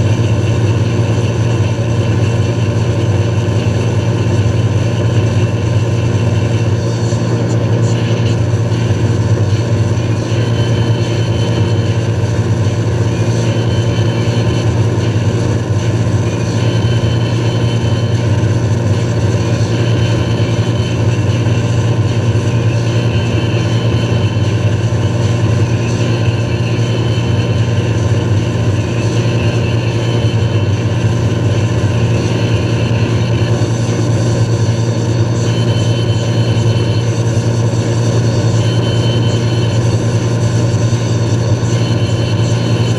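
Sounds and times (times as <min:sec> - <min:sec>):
motorboat engine humming: 0:00.0 - 0:42.9.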